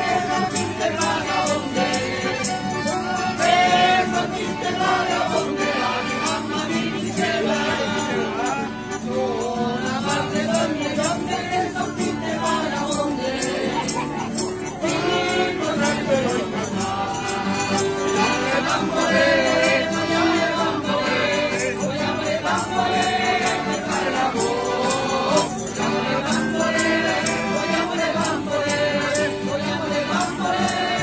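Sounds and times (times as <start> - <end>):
accordion: 0.0 - 31.0
acoustic guitars: 0.0 - 31.0
group of voices singing: 0.0 - 31.0
tambourine beat: 0.0 - 31.0.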